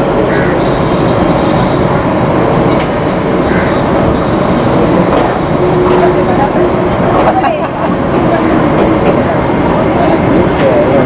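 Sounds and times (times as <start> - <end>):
steam locomotive hiss and rumble: 0.0 - 11.0.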